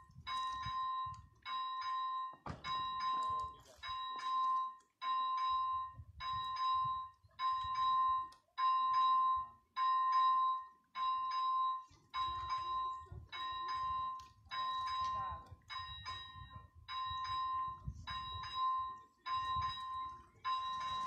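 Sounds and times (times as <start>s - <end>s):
level crossing bell ringing: 0.0s - 21.0s.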